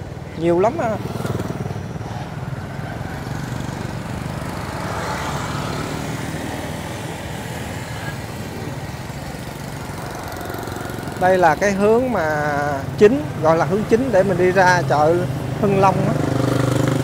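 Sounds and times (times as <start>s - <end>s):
wind and road noise: 0.0s - 17.0s
small motorbike engine running: 0.8s - 14.4s, 15.6s - 17.0s.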